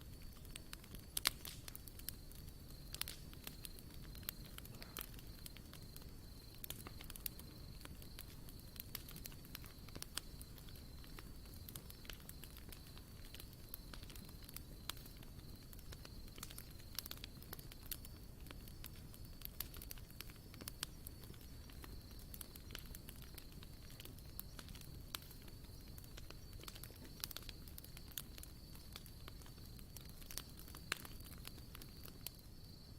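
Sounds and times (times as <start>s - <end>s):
campfire crackling and popping: 0.0s - 32.9s.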